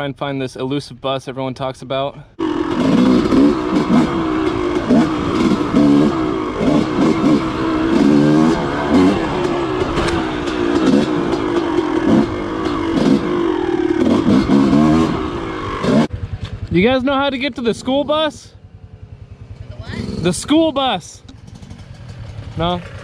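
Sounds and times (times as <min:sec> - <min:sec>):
dirt bike engine revving: 0:02.4 - 0:23.0.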